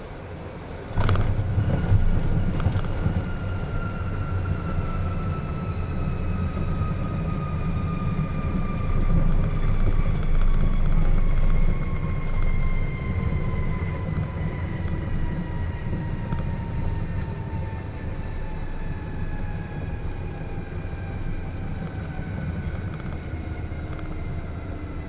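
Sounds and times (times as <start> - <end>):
jet engine whine: 0.0 - 25.0
wheels rumbling on runway: 0.0 - 25.0.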